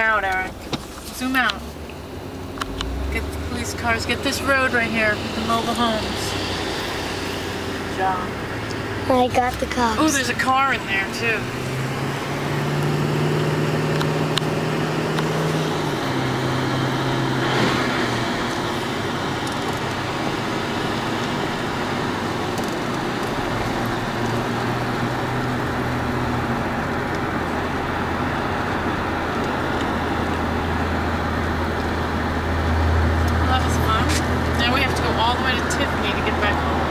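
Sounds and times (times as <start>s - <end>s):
car engine and road noise: 0.0s - 36.9s.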